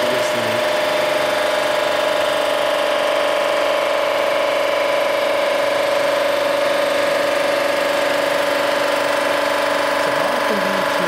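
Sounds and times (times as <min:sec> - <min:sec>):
resurfacing machine whine: 0:00.0 - 0:11.0.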